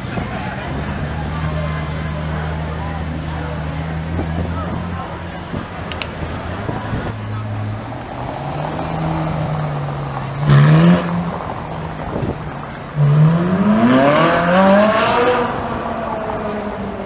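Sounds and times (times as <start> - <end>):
sports car engine revving: 0.1 - 17.0.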